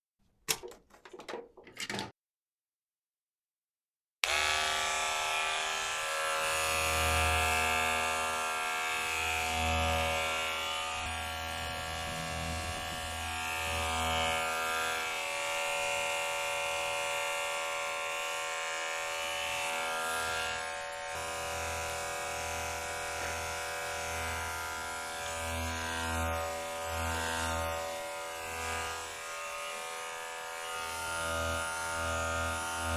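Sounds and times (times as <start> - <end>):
electric hair clipper buzzing: 4.2 - 32.9.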